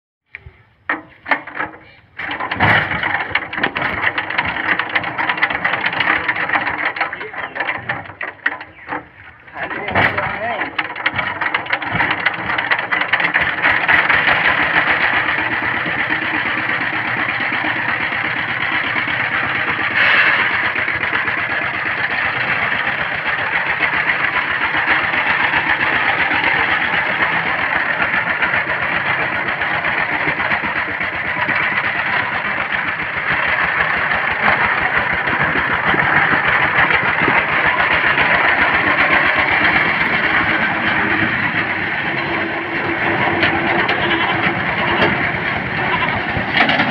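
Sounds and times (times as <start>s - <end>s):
diesel engine chugging: 0.3s - 46.9s.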